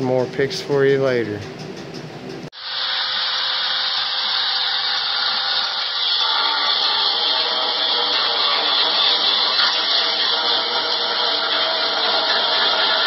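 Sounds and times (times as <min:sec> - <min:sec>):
steady hissing: 0:02.5 - 0:13.0.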